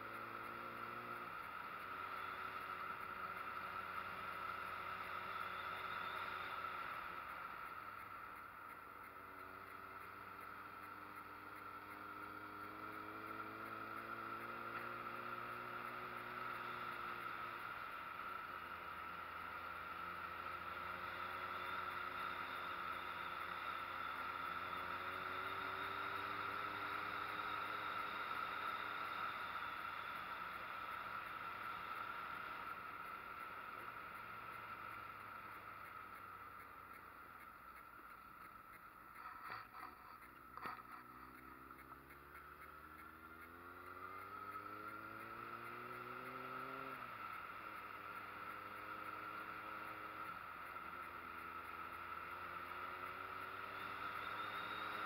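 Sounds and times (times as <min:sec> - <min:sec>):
motorcycle engine under load: 0:00.0 - 0:55.0.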